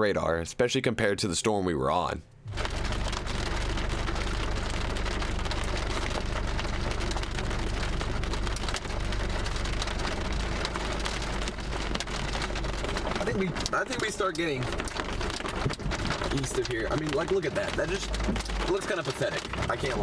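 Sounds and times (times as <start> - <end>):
low car rumble: 2.5 - 20.0
rain on a vehicle: 2.5 - 20.0.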